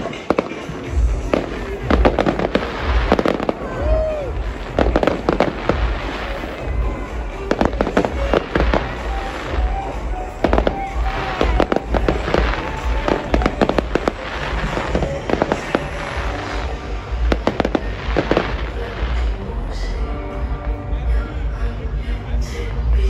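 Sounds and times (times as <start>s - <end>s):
firework bangs: 0.0s - 19.5s
fireworks crackling: 0.0s - 20.8s.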